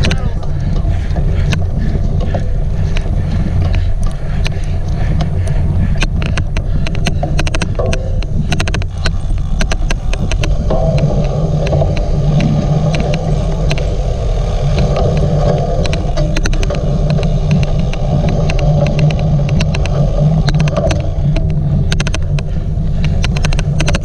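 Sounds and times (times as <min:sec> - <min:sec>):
bike rolling over rough ground: 0:00.0 - 0:24.0
sharp clicks: 0:00.0 - 0:24.0.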